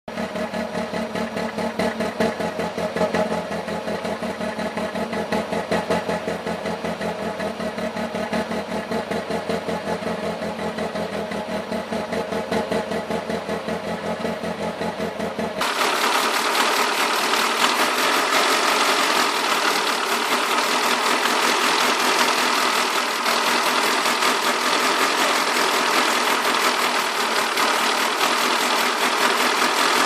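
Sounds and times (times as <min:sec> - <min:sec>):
car engine idling roughly: 0:00.1 - 0:30.0.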